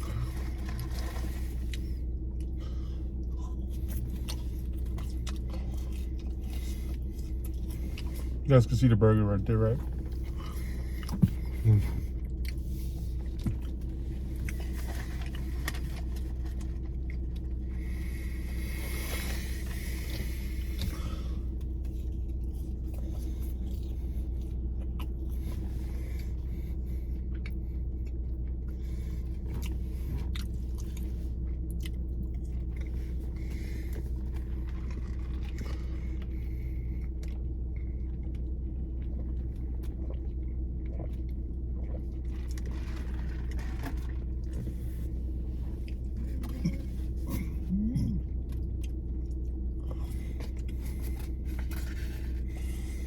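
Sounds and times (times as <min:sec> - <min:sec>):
chewing and biting food: 0:00.0 - 0:08.5, 0:09.8 - 0:53.0
steady low rumble: 0:00.0 - 0:53.0.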